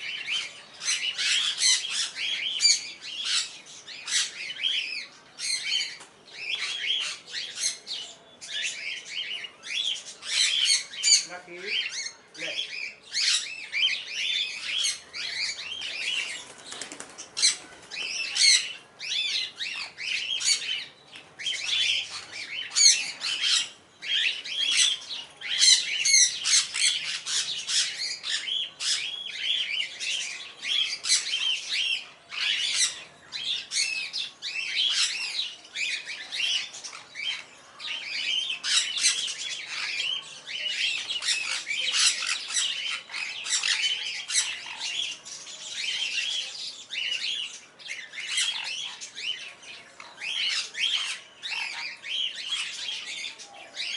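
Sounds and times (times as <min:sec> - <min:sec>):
parrots chattering and squawking: 0:00.0 - 0:16.4, 0:17.2 - 0:53.9.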